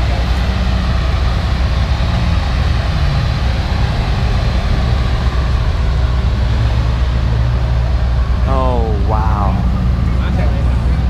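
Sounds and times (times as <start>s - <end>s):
car engine deep rumble: 0.0s - 11.0s
street noise: 0.0s - 11.0s.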